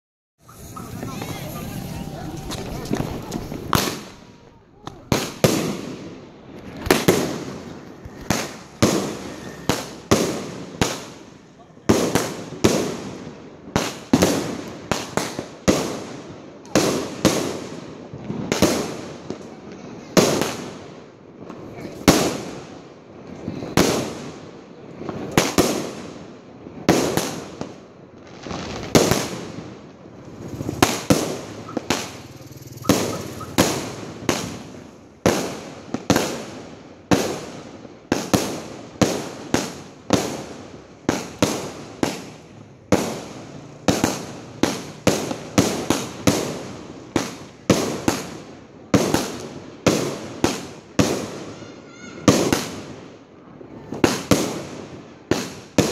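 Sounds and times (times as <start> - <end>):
fireworks bangs with echo: 0.4 - 55.9.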